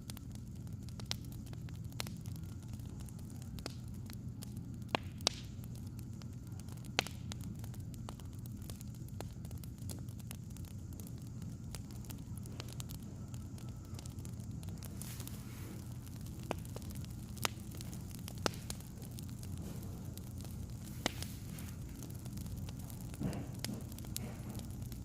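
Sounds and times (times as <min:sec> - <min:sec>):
low fire rumble: 0:00.0 - 0:25.0
wood fire crackling: 0:00.0 - 0:25.0.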